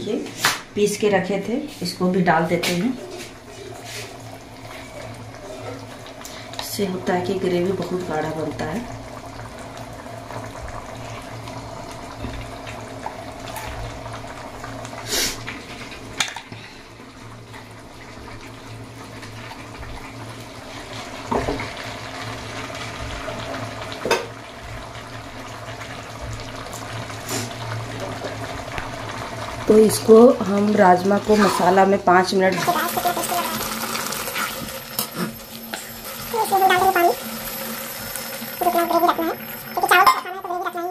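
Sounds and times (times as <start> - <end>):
gravy bubbling in a pan: 1.7 - 40.9.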